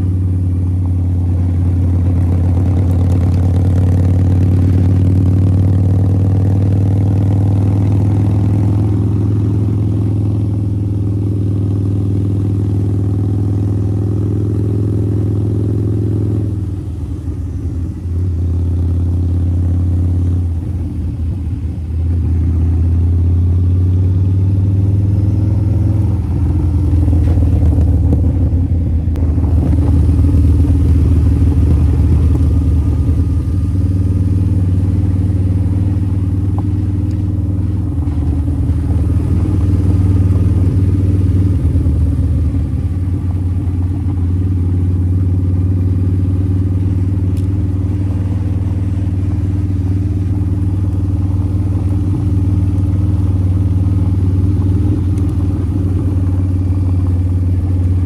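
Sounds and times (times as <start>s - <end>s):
motorcycle engine humming: 0.0s - 58.0s.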